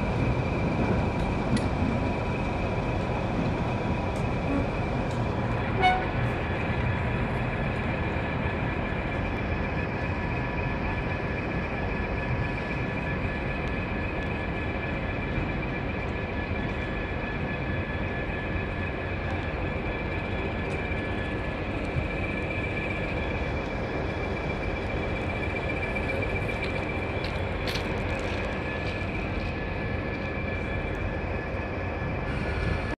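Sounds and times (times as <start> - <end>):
diesel locomotive rumbling: 0.0 - 33.0
faint high whine: 1.5 - 33.0.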